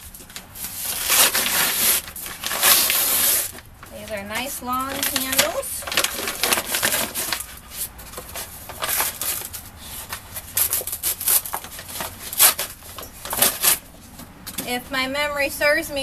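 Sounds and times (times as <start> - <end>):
paper wrapping crinkling and tearing: 0.0 - 13.9.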